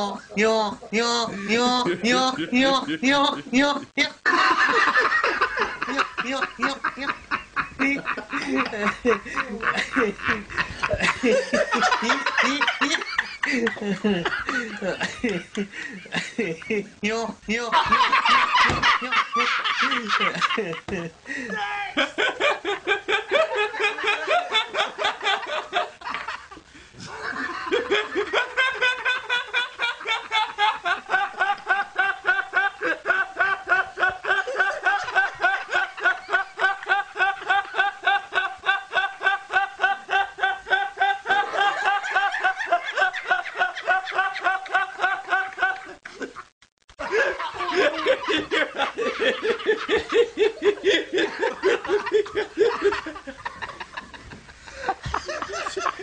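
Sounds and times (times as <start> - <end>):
young man laughing: 0.0 - 56.0.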